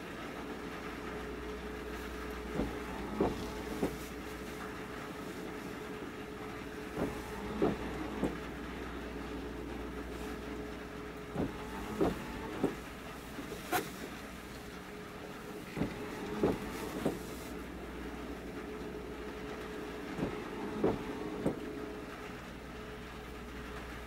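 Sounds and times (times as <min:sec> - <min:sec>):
raindrops tapping: 0:00.0 - 0:24.0
steady engine-like hum: 0:00.0 - 0:24.0.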